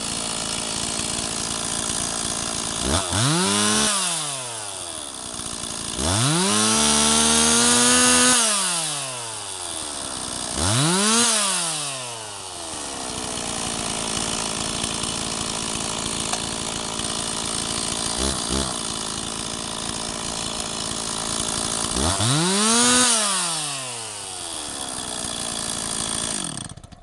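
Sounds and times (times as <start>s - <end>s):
chainsaw idling and revving: 0.0s - 27.0s.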